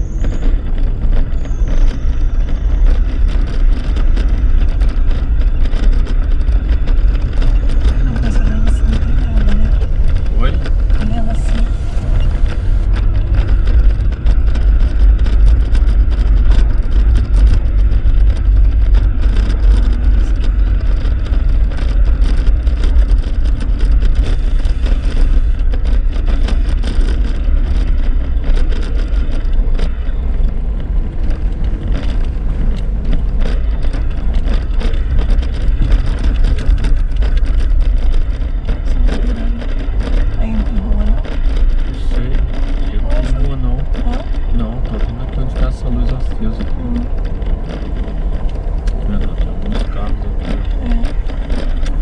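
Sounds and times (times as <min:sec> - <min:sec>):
engine and tyres rumbling: 0:00.0 - 0:52.0
rattling from rough road: 0:00.0 - 0:52.0.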